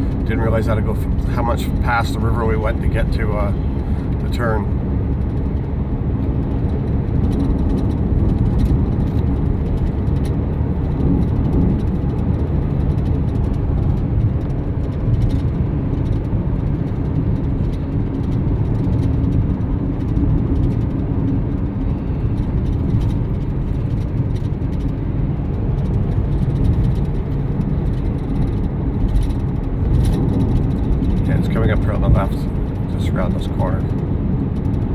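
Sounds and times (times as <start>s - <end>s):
car engine and tyre noise: 0.0s - 34.9s.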